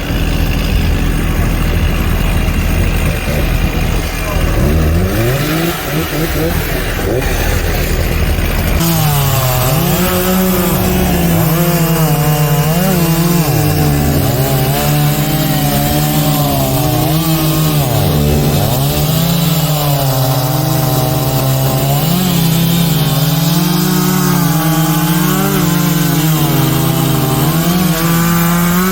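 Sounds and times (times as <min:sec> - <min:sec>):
chainsaw cutting tree trunk: 0:00.0 - 0:28.9.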